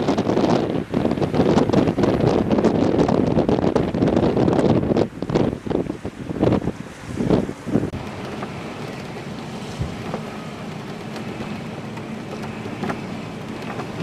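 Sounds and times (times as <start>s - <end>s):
gust buffeting microphone: 0.0s - 14.0s
wind and rain rushing: 0.0s - 14.0s.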